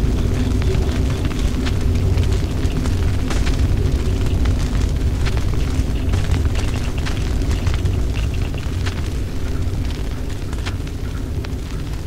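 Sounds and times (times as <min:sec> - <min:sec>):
deep rumbling drone: 0:00.0 - 0:12.0
irregular crackles: 0:00.0 - 0:12.0.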